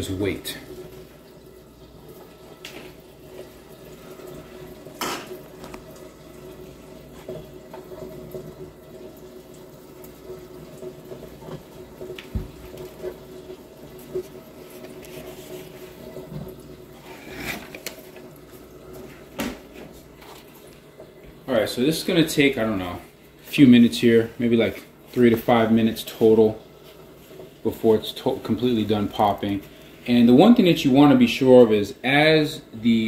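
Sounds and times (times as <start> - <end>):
oil sizzling: 0.0 - 33.0.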